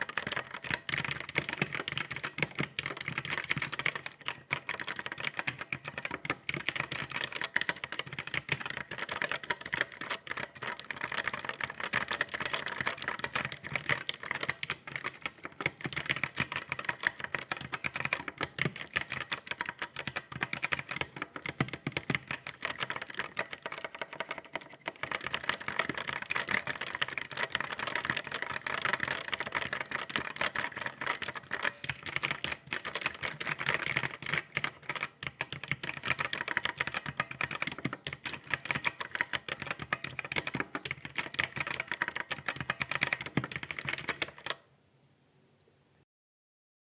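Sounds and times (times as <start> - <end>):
computer keyboard typing: 0.0 - 44.7.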